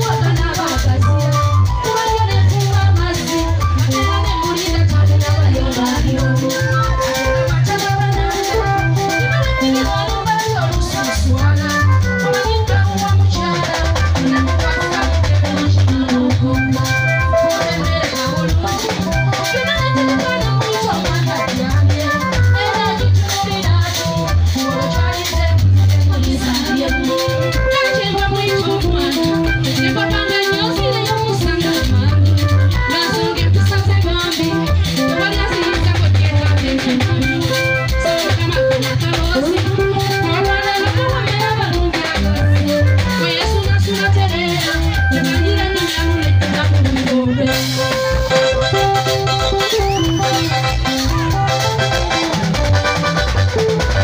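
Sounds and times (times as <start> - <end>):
woman singing into a microphone: 0.0 - 52.6
drums: 0.0 - 54.0
electric guitar: 0.0 - 54.0
keyboard chords: 0.0 - 54.0
pulsing bass line: 0.0 - 54.0
rattling high percussion: 0.0 - 54.0.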